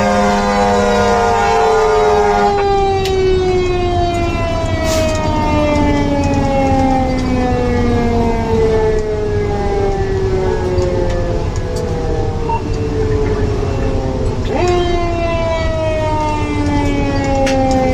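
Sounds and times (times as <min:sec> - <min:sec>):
mechanical siren winding down: 0:00.0 - 0:17.9
truck engine and road rumble: 0:00.0 - 0:17.9.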